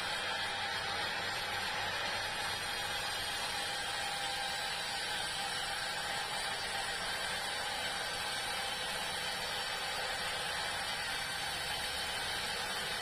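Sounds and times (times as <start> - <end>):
sawmill saw cutting log: 0.0 - 13.0.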